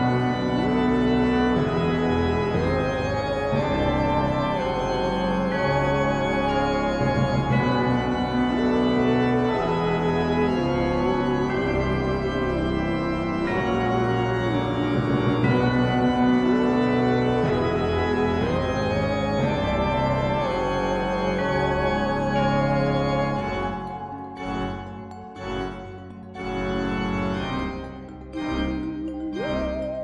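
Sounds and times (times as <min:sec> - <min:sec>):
organ-like keyboard chords: 0:00.0 - 0:30.0.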